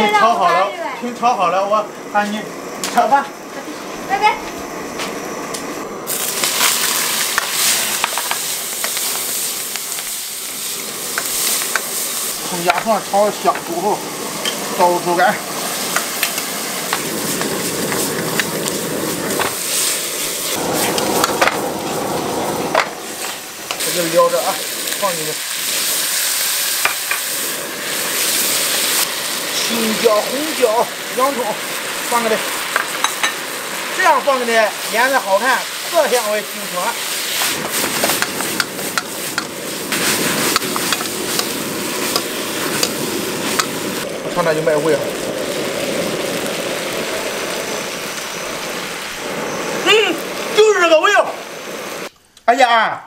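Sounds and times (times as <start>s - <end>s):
food sizzling in a wok: 0.0s - 52.1s.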